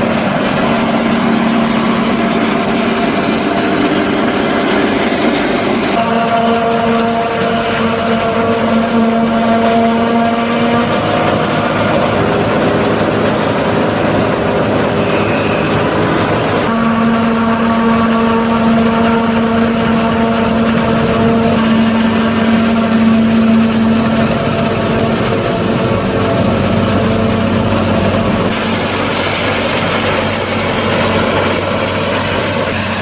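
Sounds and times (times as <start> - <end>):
loud rushing noise: 0.0 - 8.9, 10.7 - 18.2, 19.3 - 33.0
forage harvester droning: 0.0 - 33.0.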